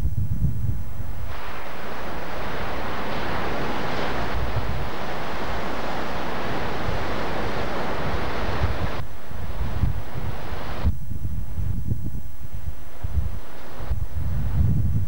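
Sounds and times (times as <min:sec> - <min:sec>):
wind and surf rushing: 0:00.0 - 0:15.0
wind buffeting microphone: 0:00.0 - 0:15.0.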